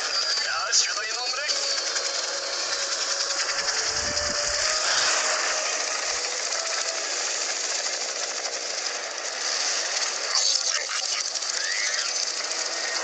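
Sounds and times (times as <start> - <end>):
faint engine whine: 0.0 - 13.0
reversed helicopter rotors chopping: 0.0 - 13.0.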